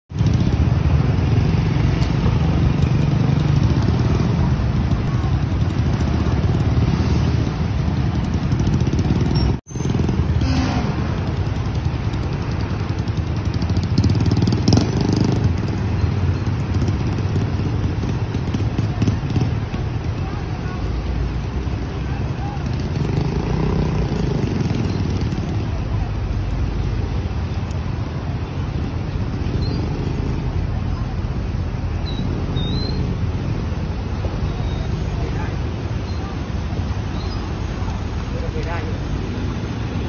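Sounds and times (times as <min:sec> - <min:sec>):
motorcycle engine: 0:00.1 - 0:40.0
truck engine: 0:00.1 - 0:40.0.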